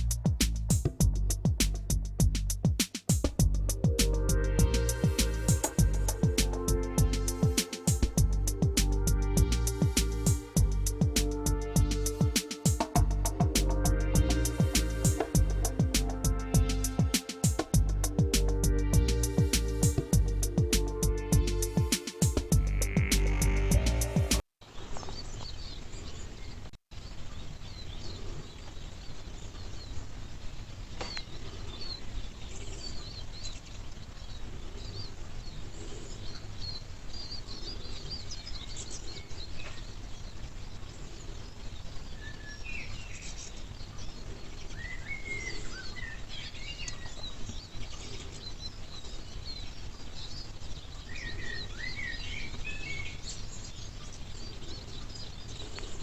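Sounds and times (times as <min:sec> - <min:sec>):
steady low background noise: 0:00.0 - 0:56.0
birds chirping and singing: 0:03.4 - 0:24.4, 0:31.0 - 0:56.0.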